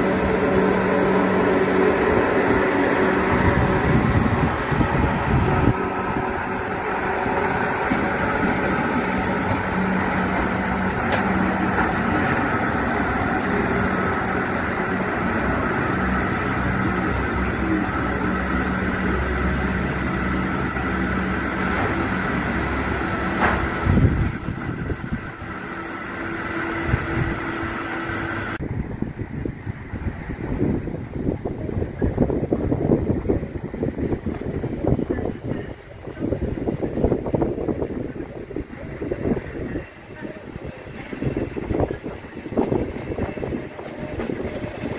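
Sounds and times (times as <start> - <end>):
train mechanical hum: 0.0 - 44.9.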